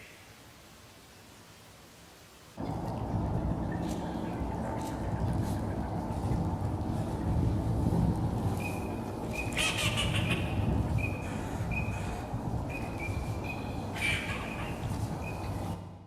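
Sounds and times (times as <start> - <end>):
low rumbling background noise: 0.2 - 16.0.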